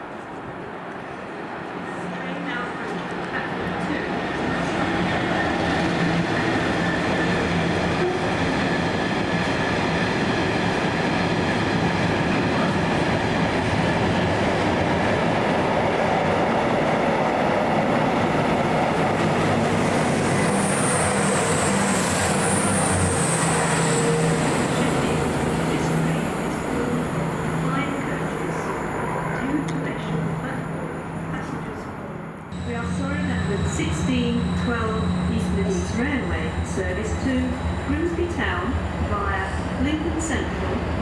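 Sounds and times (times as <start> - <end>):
diesel train passing: 0.0 - 41.0.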